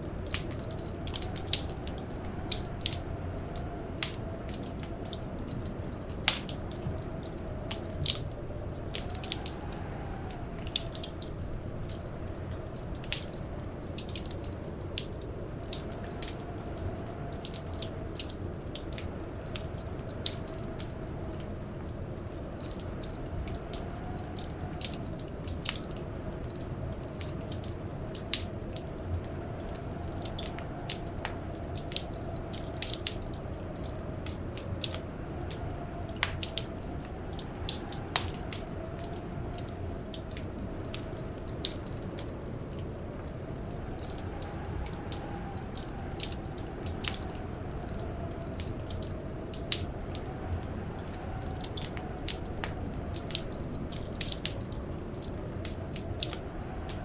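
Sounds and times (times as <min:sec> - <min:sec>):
wind howling: 0:00.0 - 0:57.0
wood fire crackling: 0:00.0 - 0:57.0.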